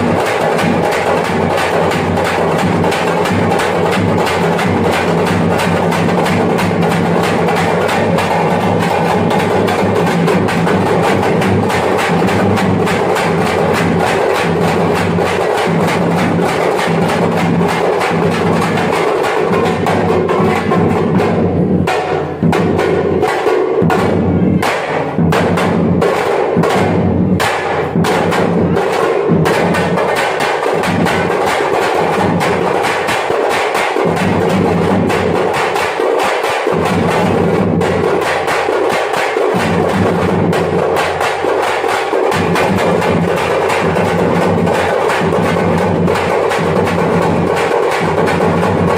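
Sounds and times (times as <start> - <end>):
frame drums beaten with sticks: 0.0 - 48.9.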